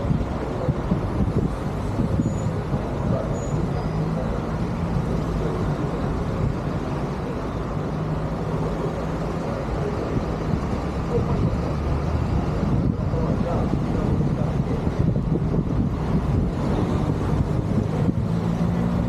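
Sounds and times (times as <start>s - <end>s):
passing engine hum: 0.0s - 19.0s
traffic rumble: 0.0s - 19.0s.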